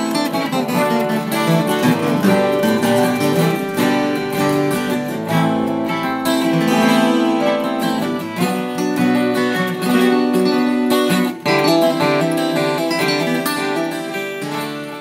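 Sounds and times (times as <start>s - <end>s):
acoustic band song: 0.0s - 15.0s.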